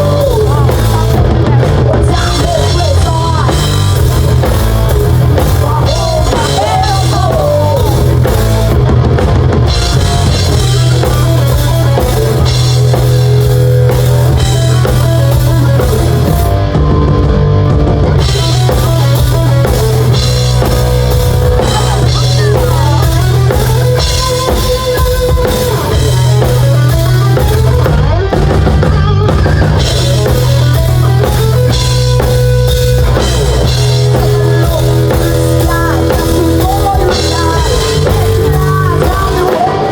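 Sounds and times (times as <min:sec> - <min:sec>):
bending melody line: 0:00.0 - 0:39.9
drum kit beat: 0:00.0 - 0:39.9
live rock band playing: 0:00.0 - 0:39.9.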